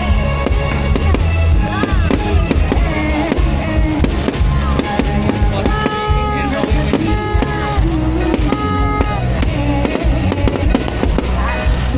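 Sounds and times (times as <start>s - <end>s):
fireworks bangs: 0.0s - 11.9s
loud music with heavy bass: 0.0s - 11.9s.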